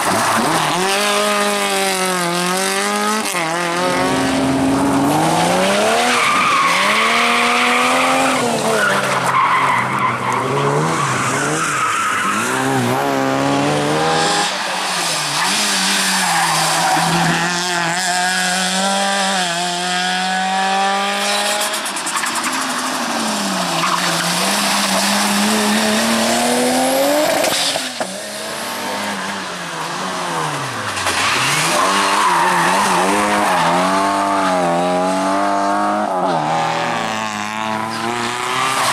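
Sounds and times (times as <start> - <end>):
tyre squeal and skidding: 0.0 - 2.3, 2.9 - 13.2, 14.1 - 18.2, 21.2 - 36.7, 37.7 - 38.9
rally car engines revving: 0.0 - 38.9.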